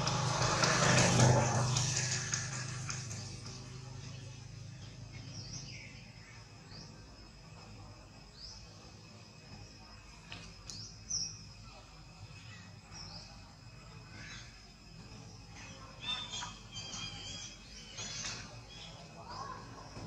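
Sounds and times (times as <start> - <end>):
high insect hum: 0.0 - 20.0.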